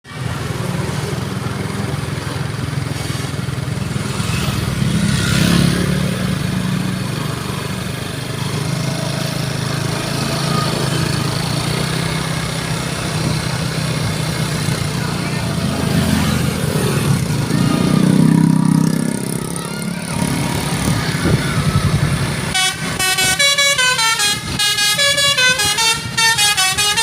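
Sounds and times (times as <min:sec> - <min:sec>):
vehicle engine running: 0:00.2 - 0:27.0.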